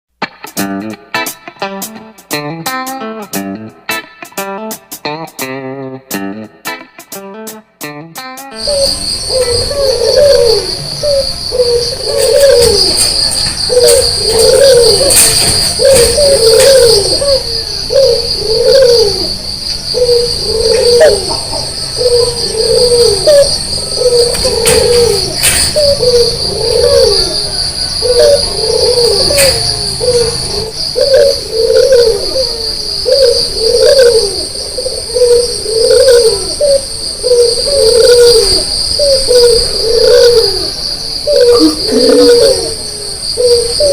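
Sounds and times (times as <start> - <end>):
dove cooing: 8.6 - 43.9.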